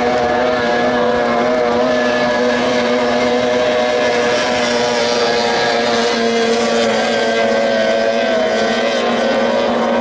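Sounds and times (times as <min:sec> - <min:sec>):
outboard engines whining: 0:00.0 - 0:10.0.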